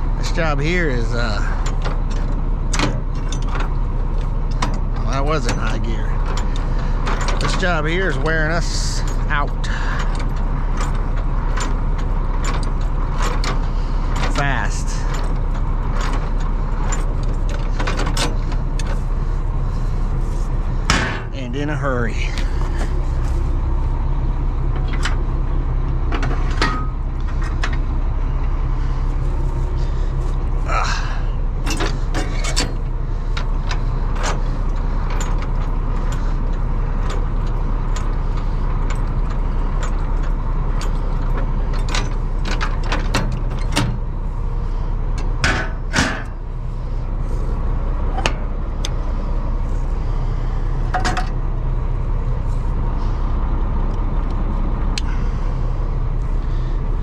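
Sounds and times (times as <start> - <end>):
short rattles and clanks: 0.0 - 57.0
truck engine running: 0.0 - 57.0.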